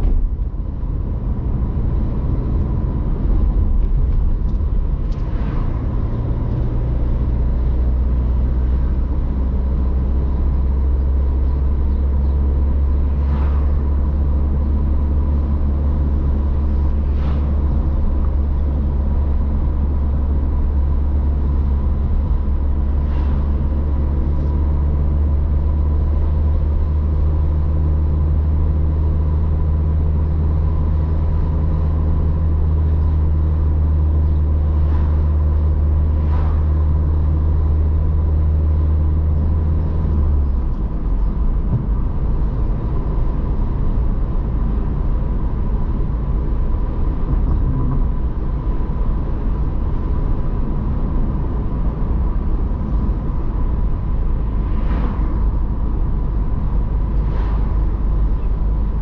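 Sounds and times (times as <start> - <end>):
car engine hum with road noise: 0.0 - 59.0
rough low rumble: 0.0 - 59.0.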